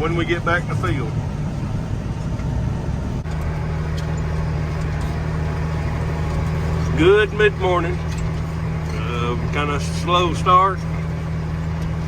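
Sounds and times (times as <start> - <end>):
deep engine hum: 0.0 - 12.0
diesel engine drone: 0.0 - 12.0.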